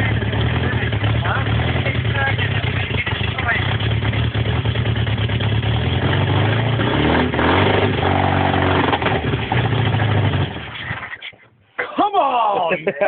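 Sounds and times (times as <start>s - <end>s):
car engine starting and revving: 0.0s - 11.2s.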